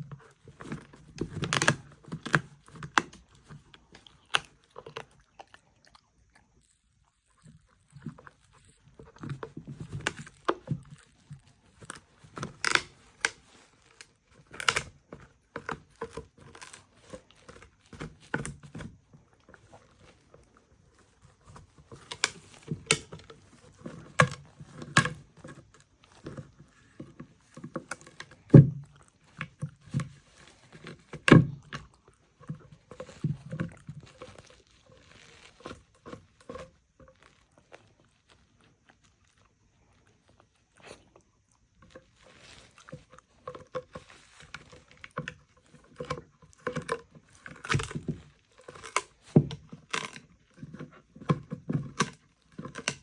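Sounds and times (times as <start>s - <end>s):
dog chewing and crunching: 0.0s - 53.0s.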